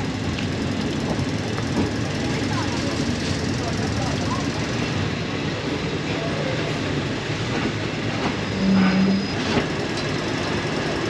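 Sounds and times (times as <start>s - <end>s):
train carriages rumbling and rattling: 0.0s - 11.0s.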